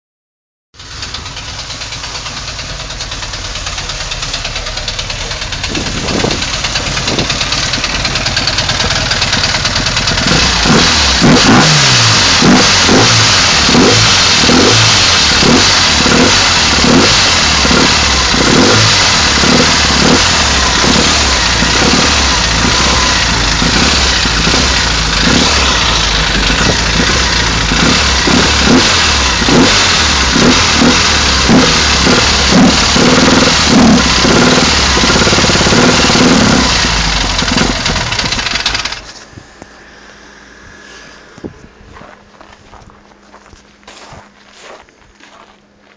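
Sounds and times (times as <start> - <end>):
engine knocking: 0.8 - 39.1
car engine running: 0.8 - 45.9.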